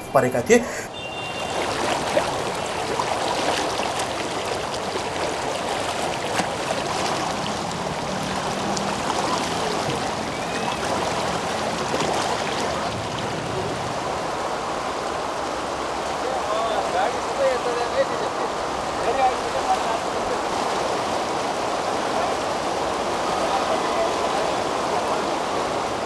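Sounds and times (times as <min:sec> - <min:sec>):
floodwater rushing: 0:00.7 - 0:26.0.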